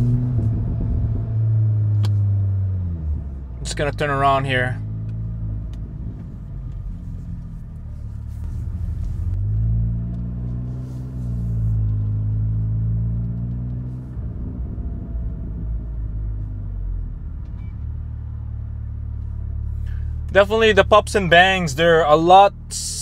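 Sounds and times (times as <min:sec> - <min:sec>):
car engine accelerating: 0:00.0 - 0:23.0
road rumble inside car: 0:00.0 - 0:23.0.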